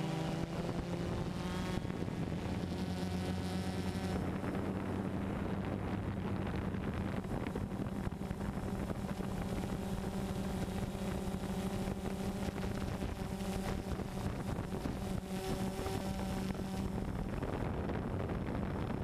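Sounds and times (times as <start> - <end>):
drone motors humming: 0.0 - 19.0
wind noise on microphone: 0.0 - 19.0.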